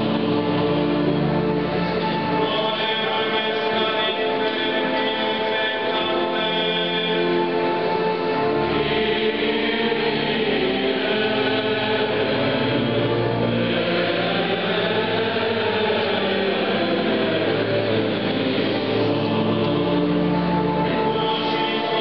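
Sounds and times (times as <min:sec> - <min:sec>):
men's choir chanting: 0:00.0 - 0:22.0.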